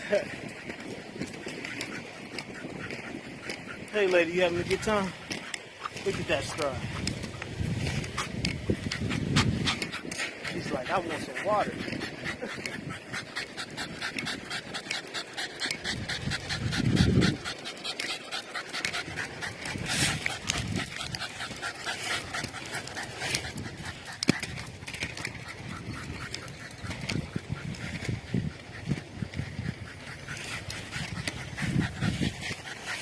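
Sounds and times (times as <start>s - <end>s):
dog panting: 0.0s - 33.0s.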